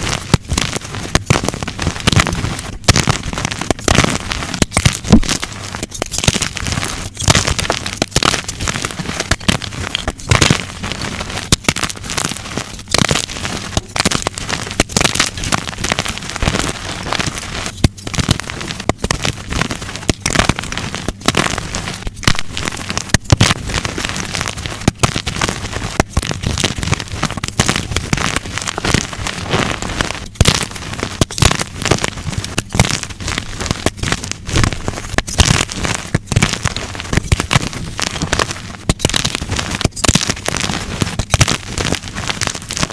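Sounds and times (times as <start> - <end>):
chalk blocks crunching and snapping: 0.0 - 42.9.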